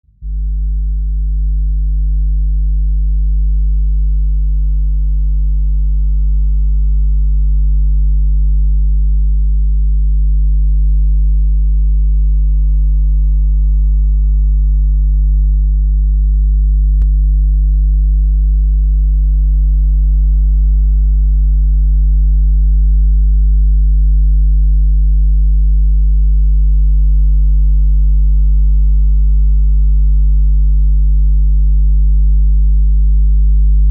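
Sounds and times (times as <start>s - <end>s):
mains hum: 0.2s - 31.5s.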